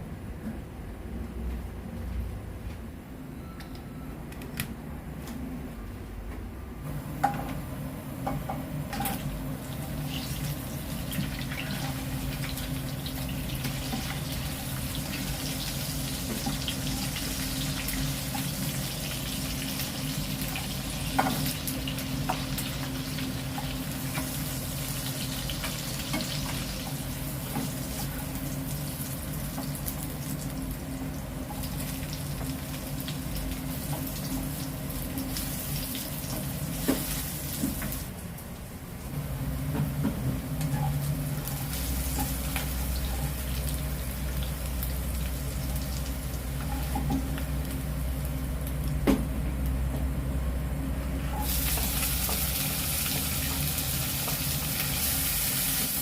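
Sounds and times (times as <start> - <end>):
low steady hum: 0.0 - 55.8
stir-fry sizzling in a pan: 7.0 - 38.2, 39.0 - 48.8, 51.1 - 56.0.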